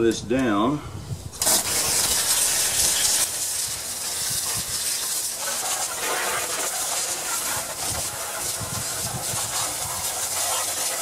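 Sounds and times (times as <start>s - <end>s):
hose nozzle spraying water: 1.3s - 11.0s.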